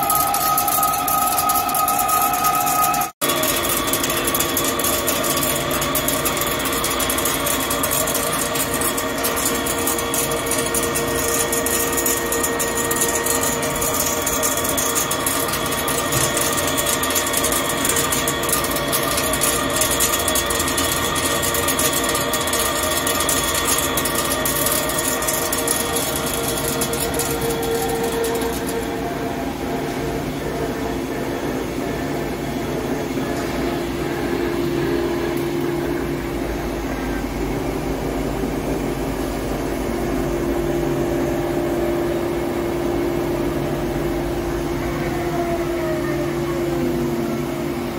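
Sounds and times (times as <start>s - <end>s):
lathe machine hum: 0.0s - 47.9s.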